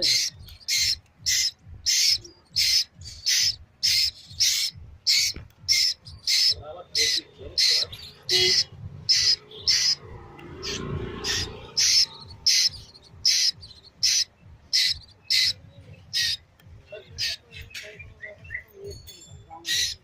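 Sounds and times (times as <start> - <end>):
bird squawking calls: 0.0 - 18.7, 19.6 - 20.0.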